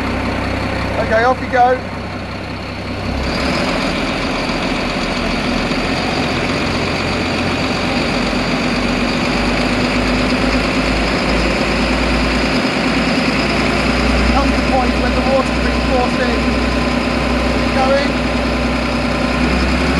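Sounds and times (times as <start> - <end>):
boat engine running: 0.0 - 19.9.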